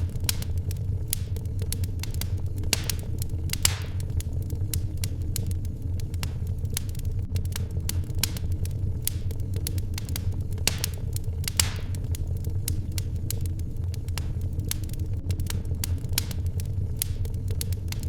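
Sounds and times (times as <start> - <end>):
fire hissing: 0.0 - 18.0
wood fire crackling: 0.0 - 18.0.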